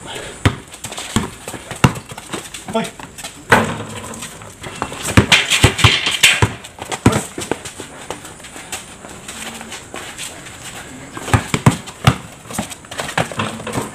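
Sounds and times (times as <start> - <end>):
basketball bouncing on concrete: 0.4 - 10.2, 11.1 - 13.9
footsteps on concrete: 0.5 - 13.9.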